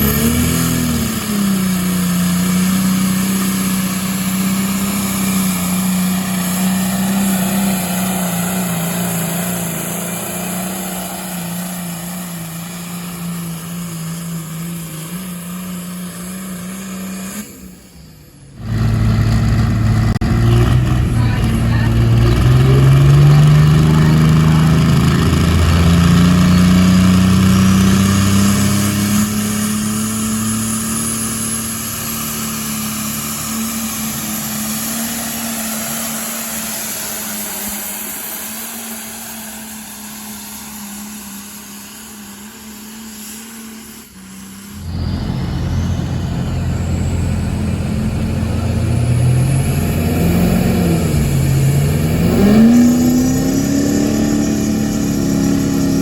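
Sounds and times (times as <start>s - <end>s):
diesel engine pulling hard: 0.0s - 56.0s
diesel engine revving: 0.0s - 56.0s.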